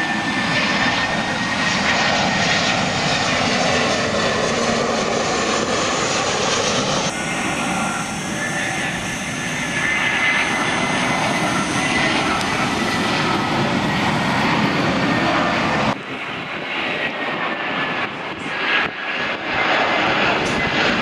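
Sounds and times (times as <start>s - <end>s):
distant jet airliner: 0.0s - 21.0s
jet airliner passing close: 0.0s - 21.0s.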